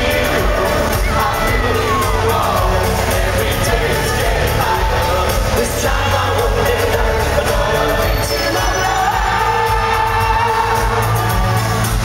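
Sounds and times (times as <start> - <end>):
crowd cheering and shouting: 0.0 - 12.0
live synth-pop band: 0.0 - 12.0.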